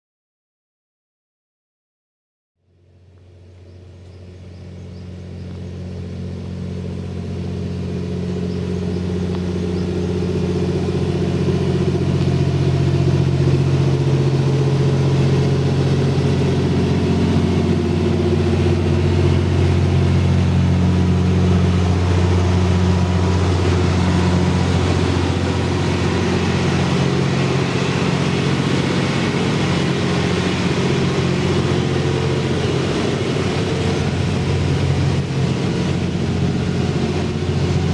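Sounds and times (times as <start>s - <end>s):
diesel engine running: 2.7s - 37.9s.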